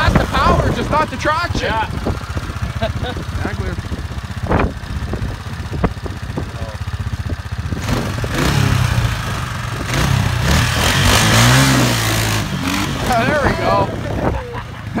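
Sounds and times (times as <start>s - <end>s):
atv engine idling and revving: 0.0s - 15.0s.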